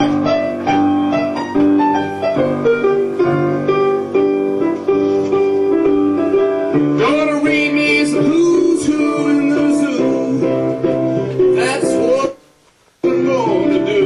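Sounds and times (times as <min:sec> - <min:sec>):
piano notes and chords: 0:00.0 - 0:14.0.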